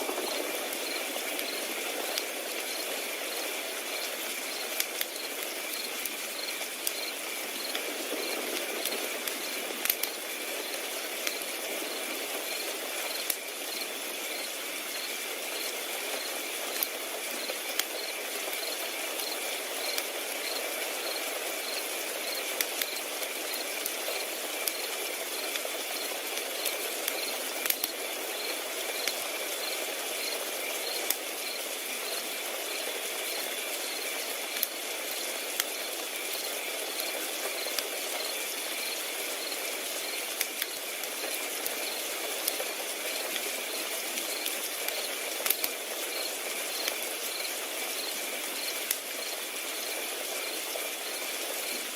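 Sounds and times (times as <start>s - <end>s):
crickets chirping: 0.0s - 51.9s
wood fire crackling and popping: 0.0s - 51.9s.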